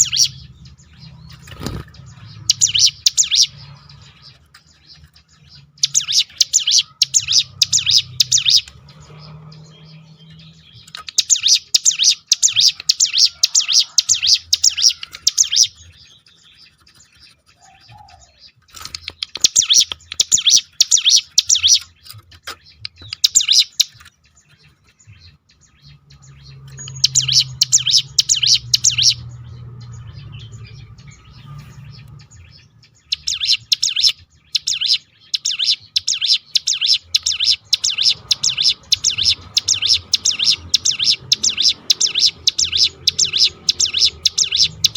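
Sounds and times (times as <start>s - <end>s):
bird singing rapid high notes: 0.0s - 44.9s.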